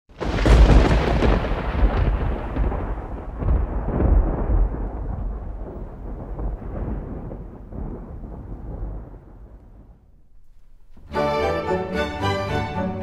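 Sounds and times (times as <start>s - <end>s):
deep thunder-like rumble: 0.1s - 11.2s.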